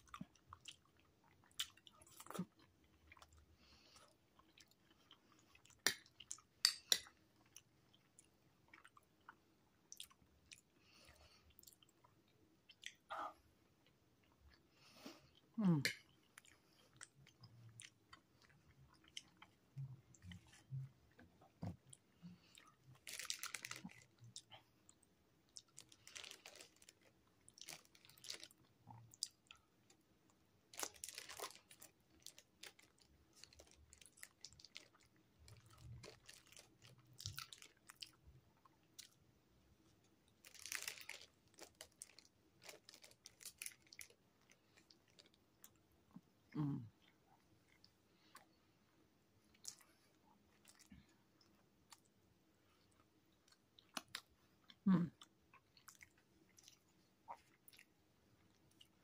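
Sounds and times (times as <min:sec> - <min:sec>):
chewing food: 0:00.0 - 0:39.2, 0:49.5 - 0:59.0.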